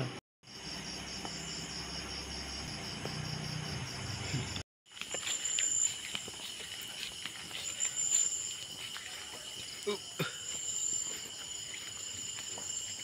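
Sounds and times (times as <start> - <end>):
insects chirping: 0.4 - 13.0.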